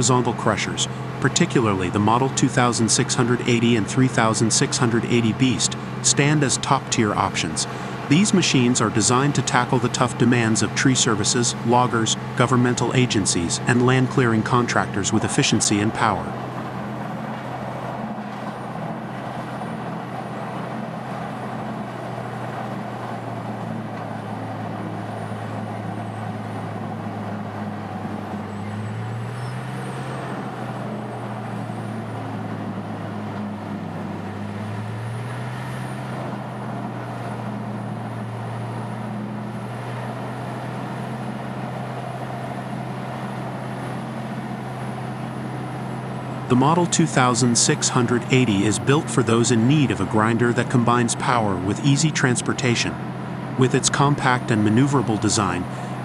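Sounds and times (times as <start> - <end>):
wood grinder diesel engine running: 0.0 - 56.0
machine hiss and rumble: 0.1 - 52.1.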